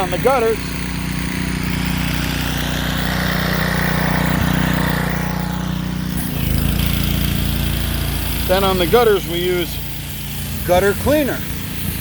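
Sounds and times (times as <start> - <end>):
pressure washer engine running: 0.0 - 12.0.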